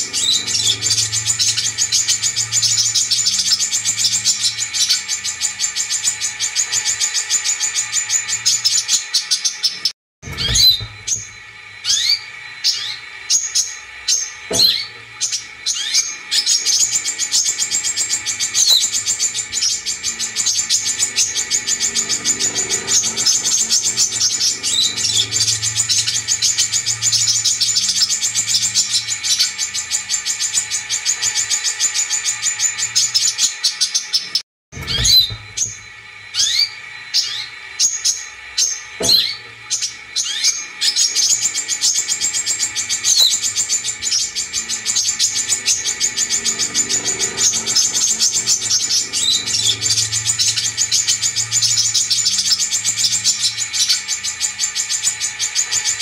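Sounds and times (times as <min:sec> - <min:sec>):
bird chirps and calls: 0:00.0 - 0:56.0
high-pitched bird trill: 0:00.0 - 0:56.0.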